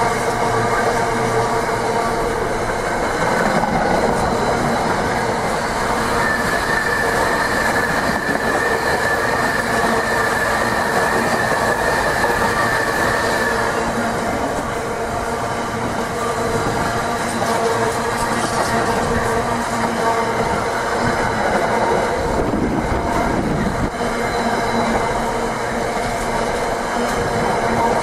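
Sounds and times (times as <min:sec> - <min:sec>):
train running on rails: 0:00.0 - 0:28.0
high steady squeal: 0:00.1 - 0:28.0.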